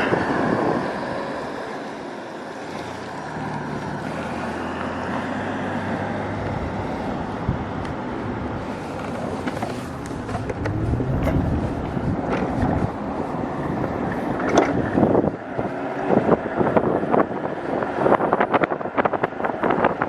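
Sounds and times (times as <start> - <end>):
road and tyre noise: 0.0 - 20.0
wind rushing over microphone: 0.0 - 20.0.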